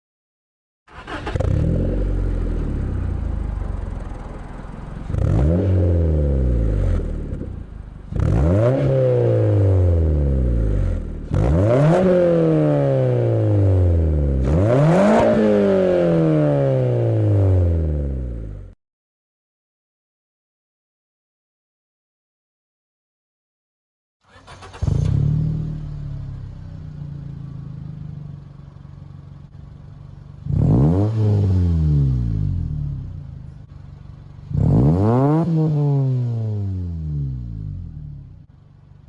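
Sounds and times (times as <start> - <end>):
car engine revving: 0.9 - 18.7, 24.3 - 39.0.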